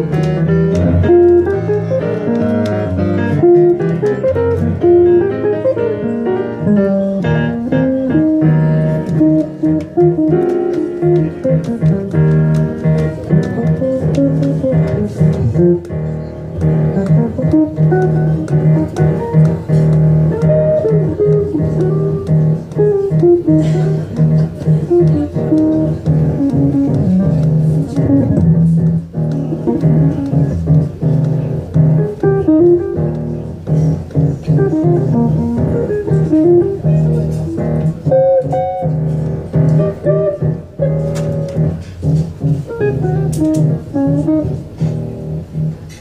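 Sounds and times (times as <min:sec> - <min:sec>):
jazz electric guitar: 0:00.0 - 0:46.0
piano: 0:00.0 - 0:46.0.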